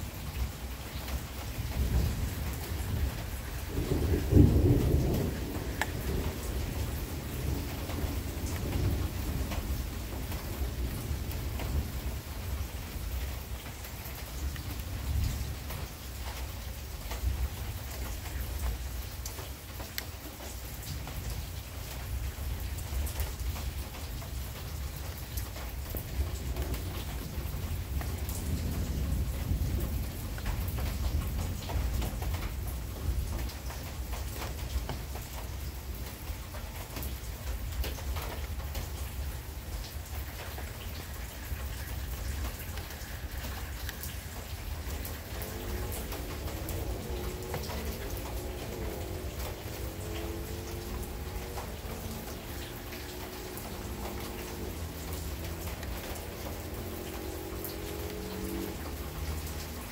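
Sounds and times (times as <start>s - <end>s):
continuous low rumble: 0.0s - 59.9s
heavy rain: 0.0s - 59.9s
rain drops hitting close by: 0.0s - 59.9s.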